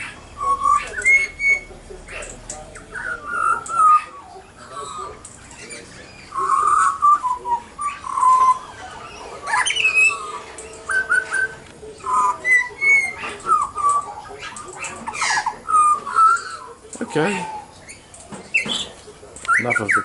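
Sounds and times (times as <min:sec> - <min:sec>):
birds calling back and forth: 0:00.0 - 0:20.0.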